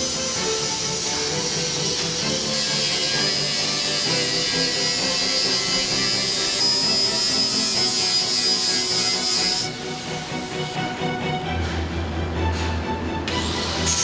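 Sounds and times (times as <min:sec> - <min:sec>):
power tool whine: 0:00.0 - 0:10.8, 0:13.3 - 0:14.0
background music: 0:00.0 - 0:14.0.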